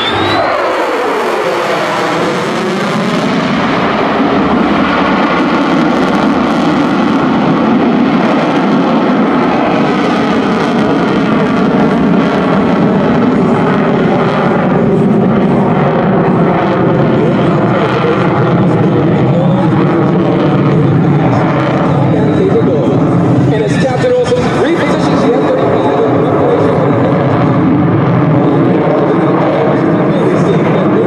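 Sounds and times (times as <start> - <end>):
falling jet whine: 0.0 - 31.0
jet engine roar: 0.0 - 31.0.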